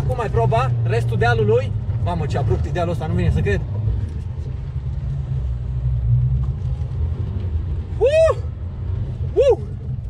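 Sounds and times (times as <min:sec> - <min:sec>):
diesel engine rumbling uphill: 0:00.0 - 0:10.0.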